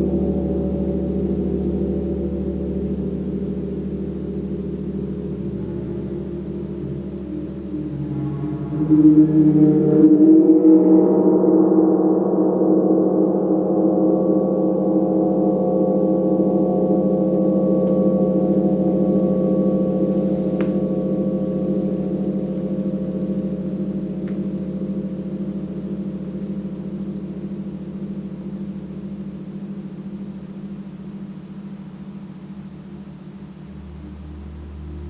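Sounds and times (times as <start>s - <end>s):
gong ringing: 0.0s - 30.2s.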